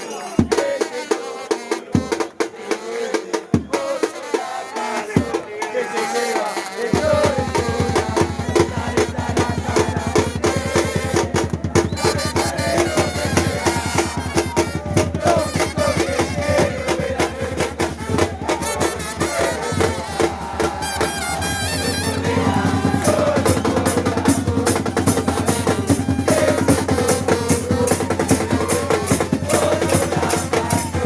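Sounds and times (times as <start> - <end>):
drums beating fast rhythm: 0.0 - 31.0.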